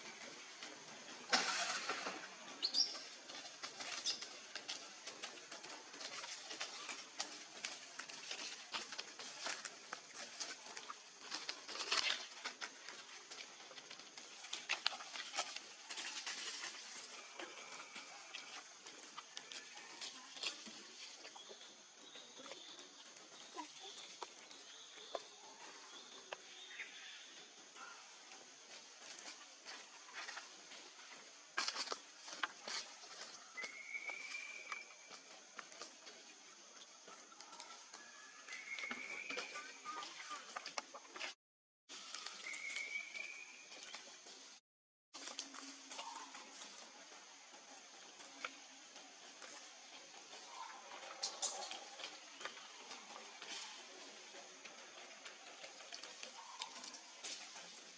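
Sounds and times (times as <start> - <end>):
monkeys scuffling: 0.0 - 26.6, 27.4 - 44.6, 45.2 - 57.9.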